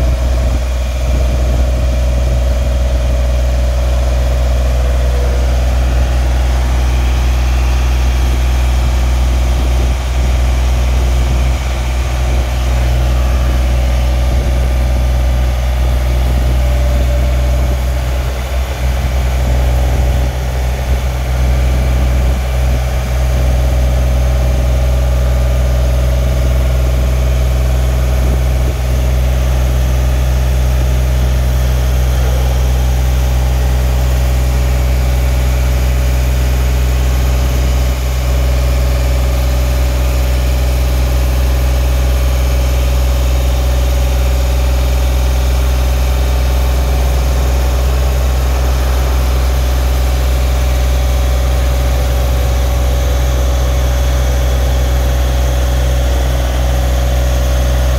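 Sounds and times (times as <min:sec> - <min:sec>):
boom lift engine running: 0:00.0 - 0:57.9
hydraulic hum: 0:00.0 - 0:57.9.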